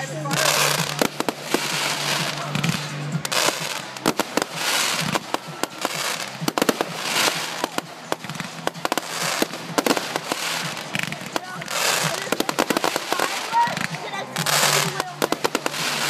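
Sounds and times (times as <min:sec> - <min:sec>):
fireworks popping and crackling: 0:00.0 - 0:16.0.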